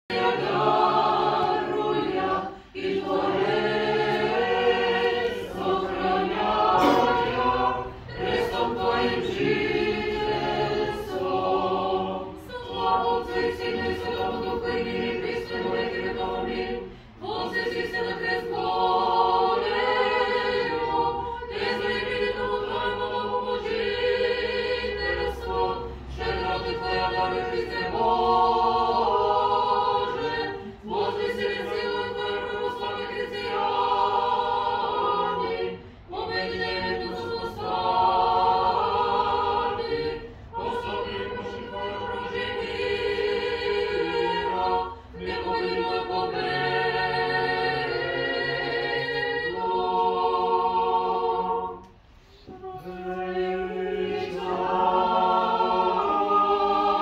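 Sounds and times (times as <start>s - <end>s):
voices chanting in harmony: 0.1s - 57.0s.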